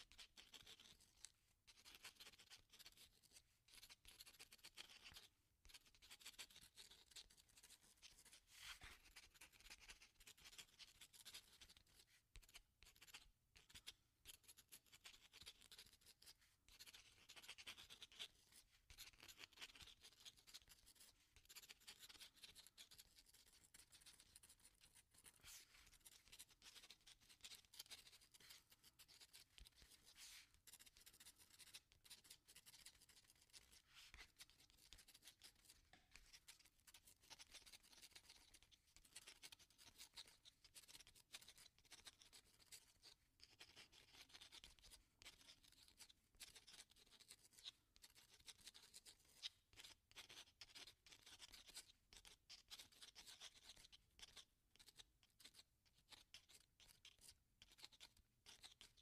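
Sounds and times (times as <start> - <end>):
pen scratching on paper: 0.1 - 3.1, 3.7 - 58.8.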